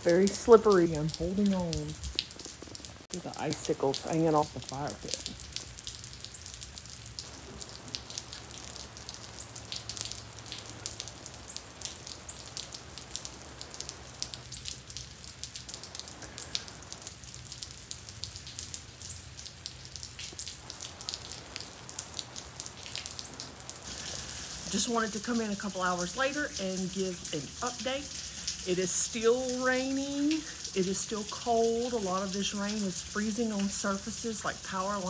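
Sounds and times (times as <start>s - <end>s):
freezing rain ticking on ice: 0.0s - 35.0s.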